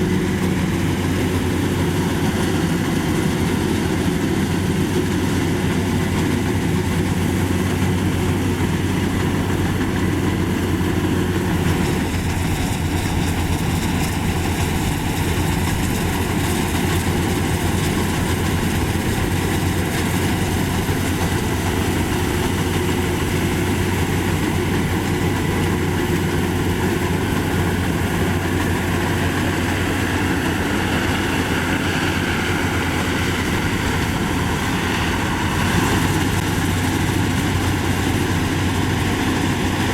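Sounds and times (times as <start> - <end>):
harvester engine drone: 0.0 - 39.9
working machinery noise: 0.0 - 39.9.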